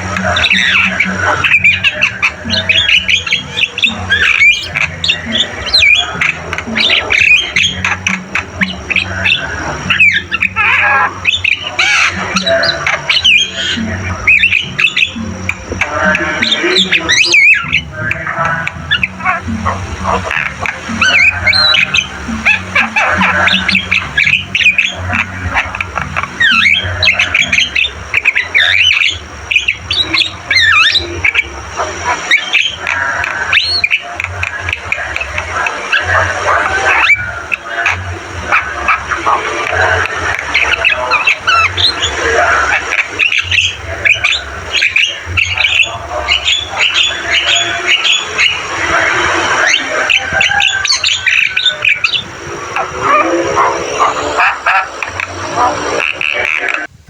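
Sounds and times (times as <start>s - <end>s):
bird squawking and whistling: 0.0s - 56.9s.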